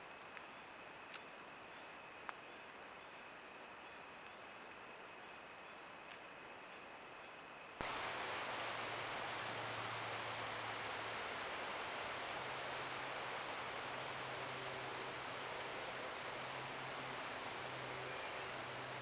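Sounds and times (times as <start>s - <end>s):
faint low hum: 0.0s - 19.0s
microphone hiss: 0.0s - 19.0s
night insects chirring: 0.0s - 19.0s.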